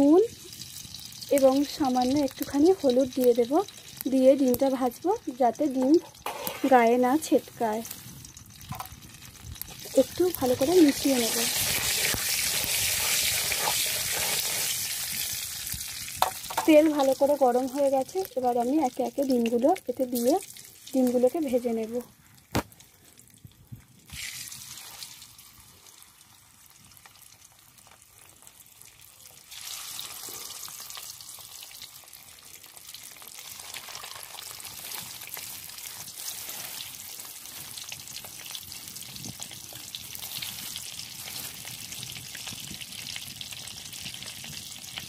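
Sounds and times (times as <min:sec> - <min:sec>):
eggs sizzling in hot oil: 0:00.0 - 0:22.6, 0:24.0 - 0:45.0.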